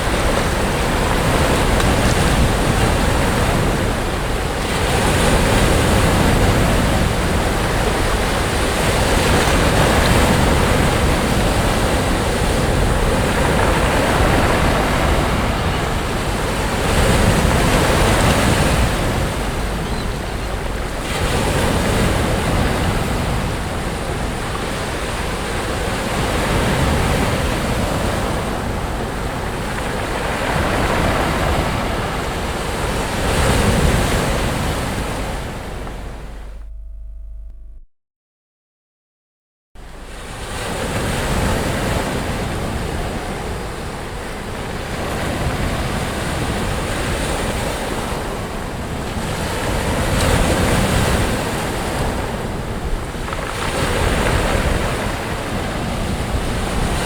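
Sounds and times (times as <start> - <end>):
sea waves breaking on beach: 0.0 - 36.5, 39.8 - 57.0
wind buffeting microphone: 0.0 - 37.2, 39.8 - 57.0.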